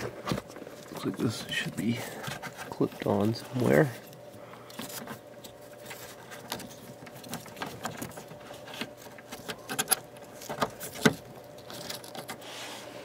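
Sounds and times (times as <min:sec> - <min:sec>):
wiring harness rustling: 0:00.0 - 0:13.0.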